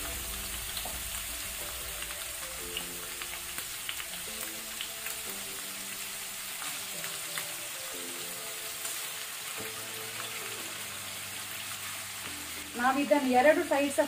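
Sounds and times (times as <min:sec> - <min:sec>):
oil crackling and popping: 0:00.0 - 0:13.3
chicken sizzling in hot oil: 0:00.0 - 0:14.0.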